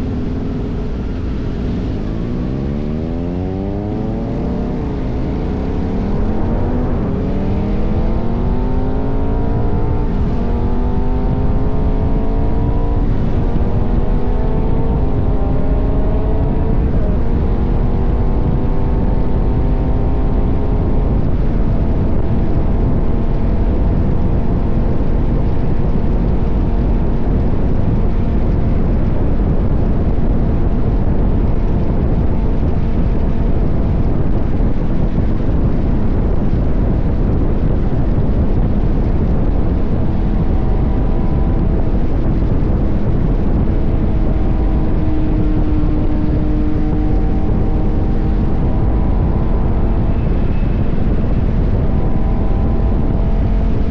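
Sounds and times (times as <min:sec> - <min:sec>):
motorcycle engine running: 0:00.0 - 0:53.9
wind rush on microphone: 0:00.0 - 0:53.9.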